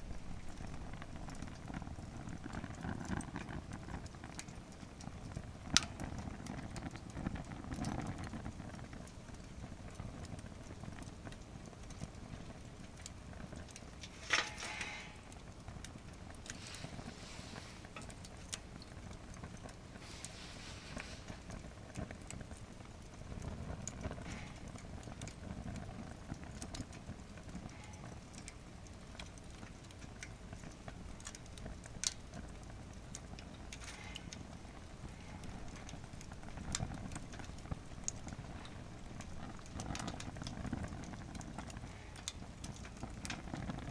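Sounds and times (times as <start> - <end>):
fire crackling and popping: 0.0 - 43.9
low rumble of flame: 0.0 - 43.9.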